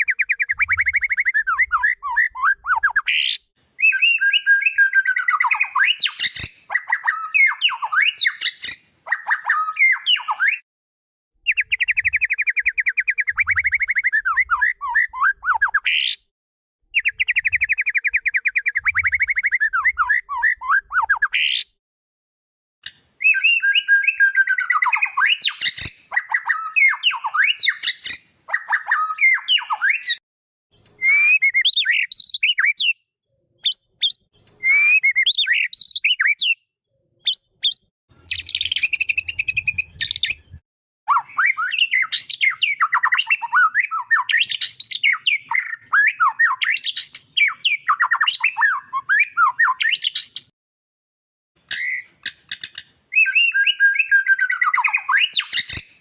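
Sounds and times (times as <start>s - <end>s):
bird whistled song: 0.0s - 10.6s, 11.4s - 16.3s, 16.9s - 21.8s, 22.8s - 30.2s, 30.8s - 50.5s, 51.7s - 56.0s.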